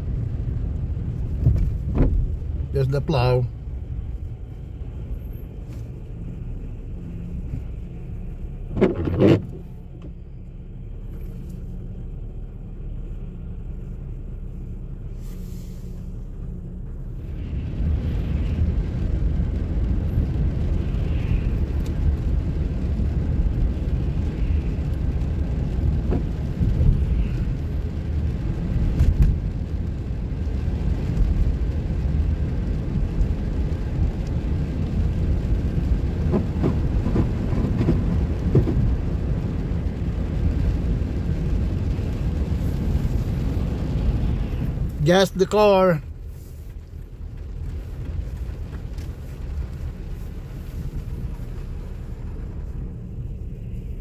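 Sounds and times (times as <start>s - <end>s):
tyres and engine rumble: 0.0s - 54.0s.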